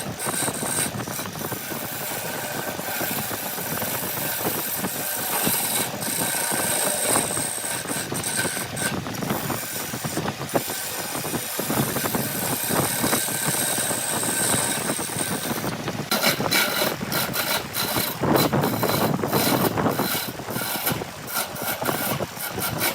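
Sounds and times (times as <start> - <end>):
woodworking machinery running: 0.0 - 22.9.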